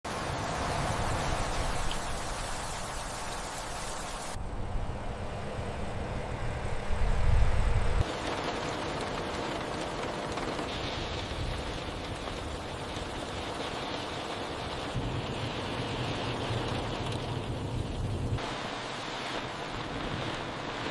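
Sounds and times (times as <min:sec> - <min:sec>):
heavy rain falling: 0:00.0 - 0:04.4, 0:08.0 - 0:20.9.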